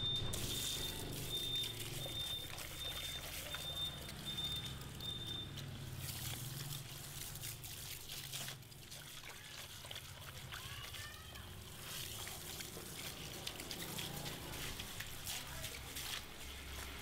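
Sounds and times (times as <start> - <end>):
water running into basin: 0.0 - 17.0
shower head spraying water on hair: 0.3 - 17.0.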